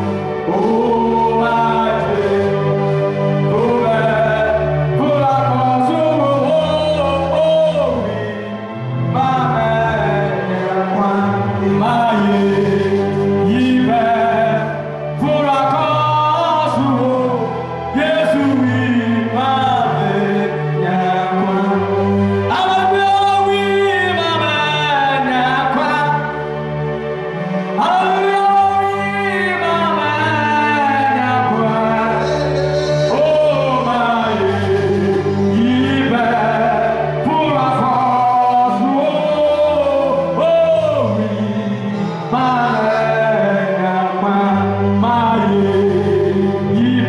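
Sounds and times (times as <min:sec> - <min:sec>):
man singing into microphone: 0:00.3 - 0:26.4, 0:27.8 - 0:47.0.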